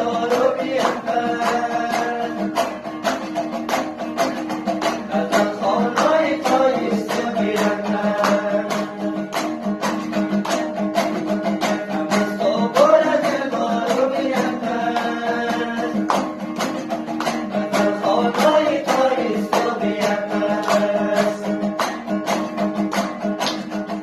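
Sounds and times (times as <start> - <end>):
people singing: 0.0 - 10.3, 11.6 - 22.8
handclaps: 0.0 - 24.0
strummed two-string lute: 0.0 - 24.0.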